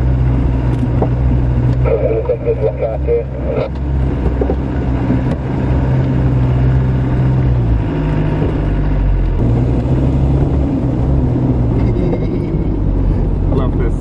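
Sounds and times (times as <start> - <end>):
car engine drone from inside: 0.0 - 14.0.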